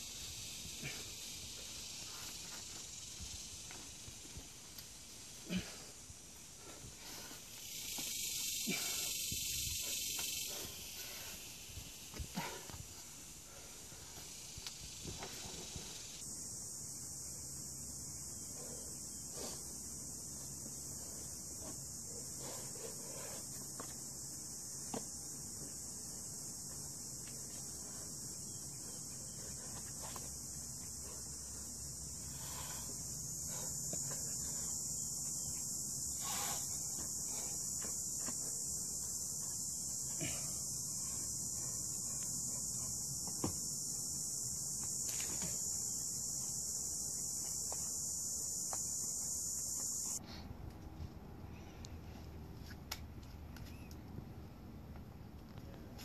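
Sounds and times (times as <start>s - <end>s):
high-pitched insect chorus: 0.0s - 50.2s
steady high hiss: 0.0s - 50.2s.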